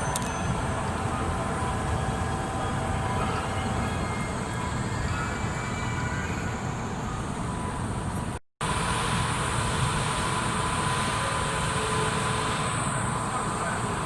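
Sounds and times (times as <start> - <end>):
station background noise: 0.0 - 14.0
urban traffic rumble: 0.0 - 14.0.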